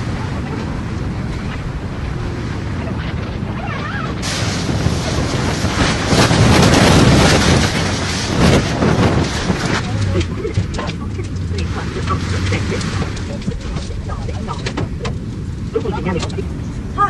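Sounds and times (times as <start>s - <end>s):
strong wind blasting microphone: 0.0s - 17.0s.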